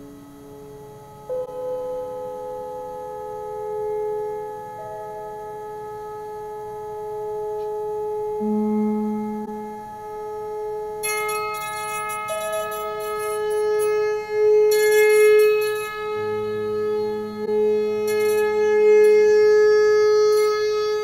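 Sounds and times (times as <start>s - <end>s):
low hum: 0.0s - 20.2s
electric zither ambient drone: 0.0s - 21.0s
shimmering high note flurries: 1.2s - 21.0s.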